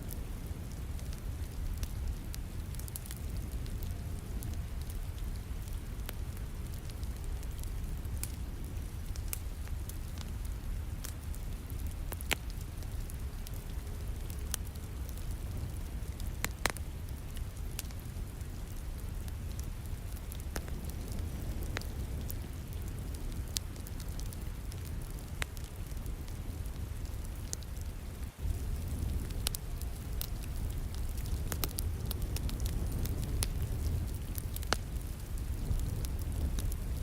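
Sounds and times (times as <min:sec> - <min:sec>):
rain falling: 0:00.0 - 0:37.0
wood fire crackling: 0:00.0 - 0:37.0.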